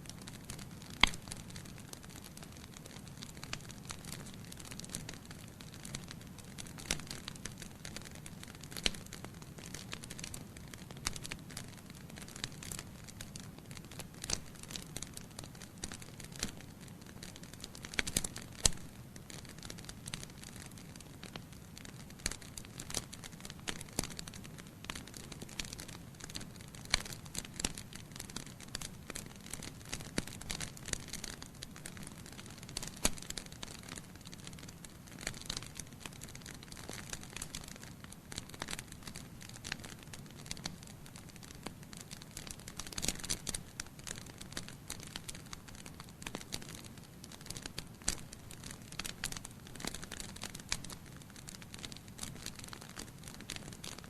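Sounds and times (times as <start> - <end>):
logs crackling and popping: 0.0 - 54.0
low rumble of flames: 0.1 - 54.0.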